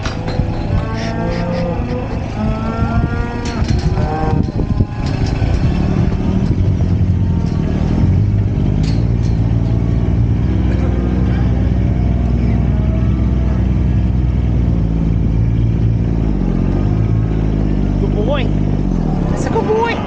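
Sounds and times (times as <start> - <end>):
cattle mooing: 0.0 - 17.8
diesel engine running: 0.0 - 20.0.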